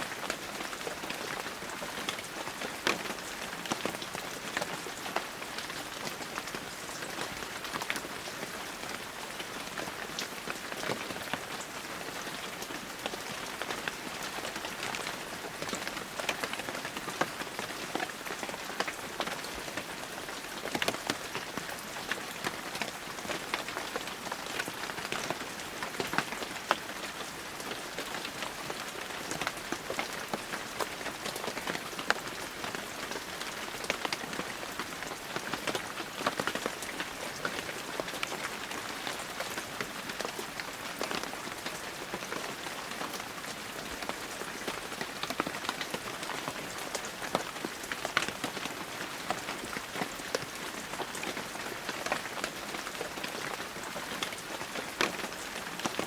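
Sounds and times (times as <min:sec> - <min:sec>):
heavy rain falling: 0:00.0 - 0:56.0
raindrops pattering close by: 0:00.1 - 0:56.0.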